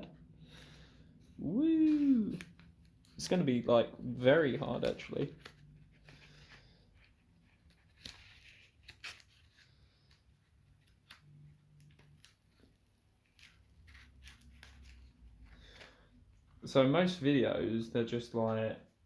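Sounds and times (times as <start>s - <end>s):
vinyl film crinkling and crackling: 1.4s - 18.9s.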